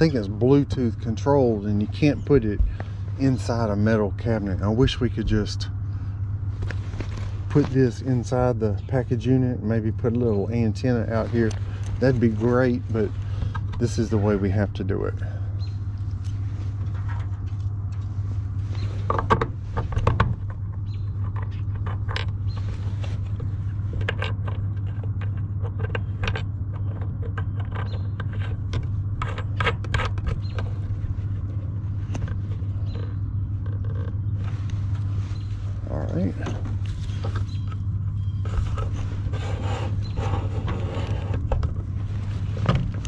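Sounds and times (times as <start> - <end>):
low machine hum: 0.0 - 43.0.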